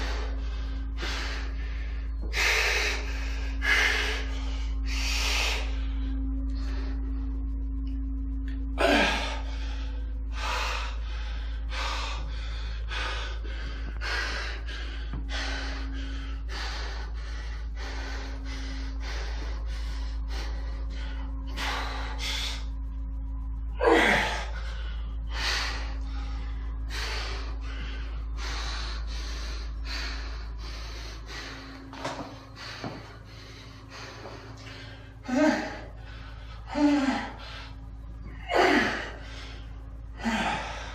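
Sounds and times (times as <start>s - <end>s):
man breathing hard: 0.0s - 7.6s, 8.5s - 40.9s
steady low hum: 0.0s - 40.9s.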